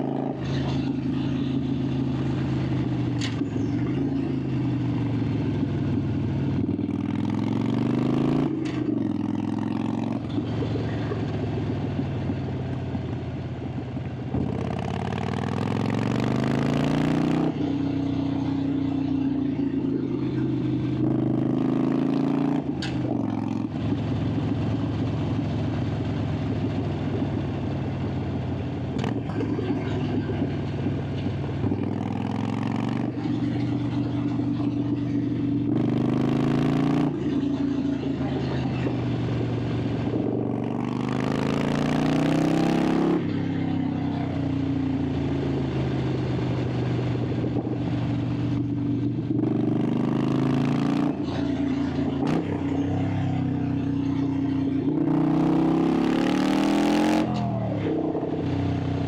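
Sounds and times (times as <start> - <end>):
motorcycle engine under load: 0.0 - 59.0.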